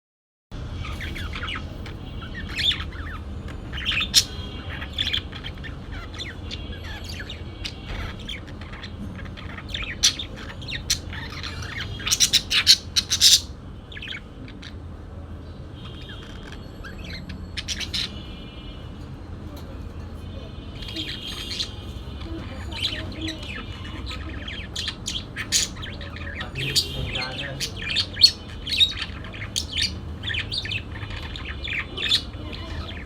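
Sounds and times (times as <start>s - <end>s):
parakeets chirping and chattering: 0.6s - 33.0s.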